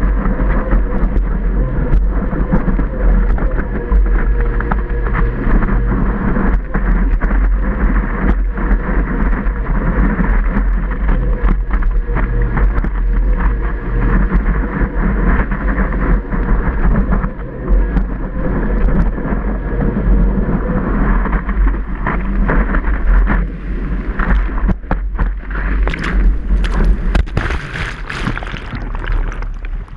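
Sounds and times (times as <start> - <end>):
low rumble: 0.0 - 29.9
water splashing: 0.0 - 29.9
wind buffeting microphone: 0.0 - 29.9.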